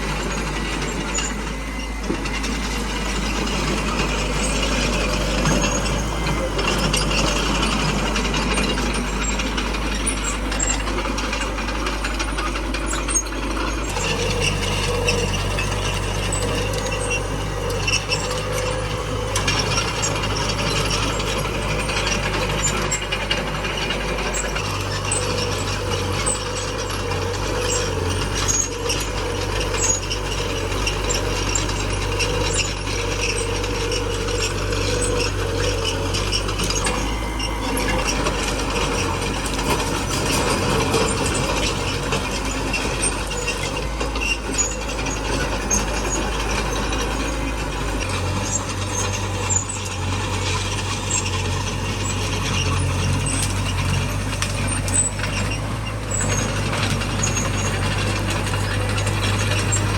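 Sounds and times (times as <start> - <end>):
diesel engine running: 0.0 - 59.9
metallic clatter of tracks: 0.0 - 59.9.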